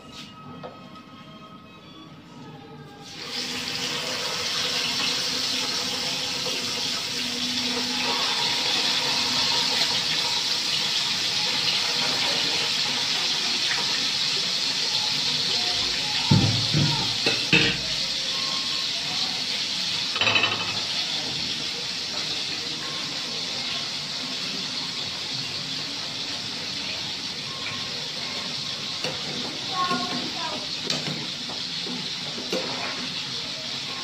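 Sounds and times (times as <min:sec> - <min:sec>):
pot boiling with bubbling hiss: 0:03.1 - 0:20.2, 0:20.8 - 0:34.0.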